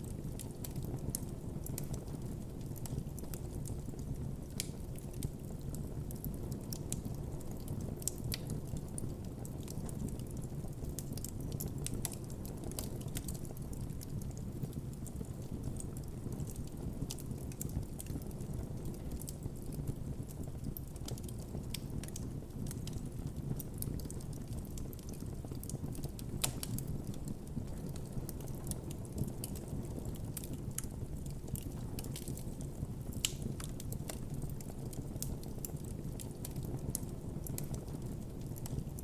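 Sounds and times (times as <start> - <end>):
campfire flames rumbling: 0.0 - 39.0
fire crackling and popping: 0.0 - 39.0.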